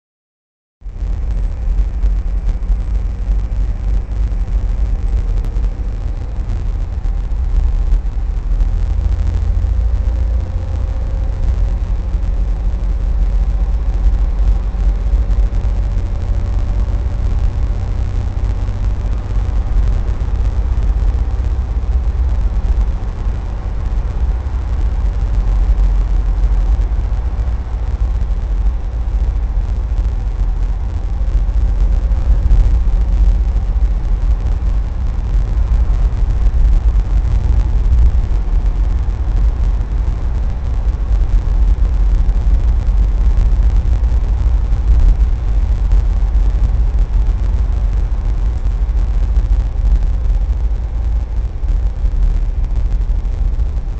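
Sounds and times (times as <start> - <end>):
car engine and road rumble: 0.8 - 53.9.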